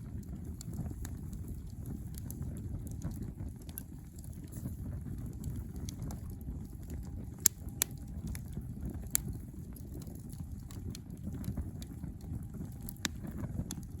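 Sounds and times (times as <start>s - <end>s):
campfire wood popping and crackling: 0.0s - 14.0s
low steady rumble: 0.0s - 14.0s.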